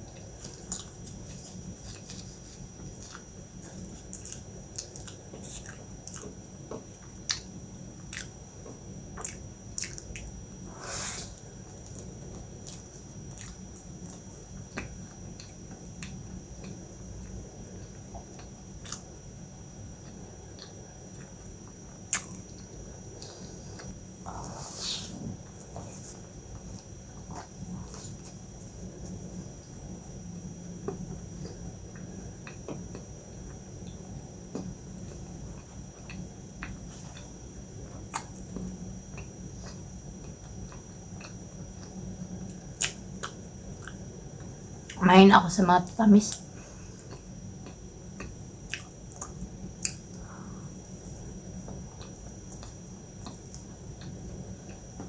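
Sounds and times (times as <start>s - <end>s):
steady low hum: 0.0s - 55.0s
person chewing pastry: 0.1s - 6.4s, 7.0s - 8.4s, 9.1s - 19.2s, 19.9s - 29.3s, 35.0s - 45.0s, 46.7s - 50.6s, 51.7s - 54.9s.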